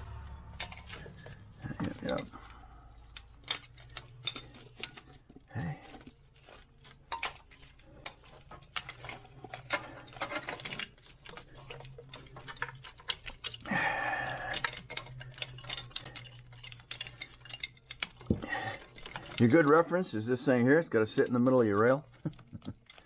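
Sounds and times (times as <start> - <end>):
plastic connectors clicking and rattling: 0.0 - 20.0.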